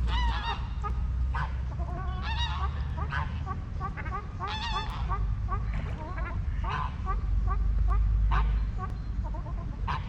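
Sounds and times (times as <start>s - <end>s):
steady low rumble: 0.0s - 10.0s
waterfowl calling: 0.0s - 10.0s.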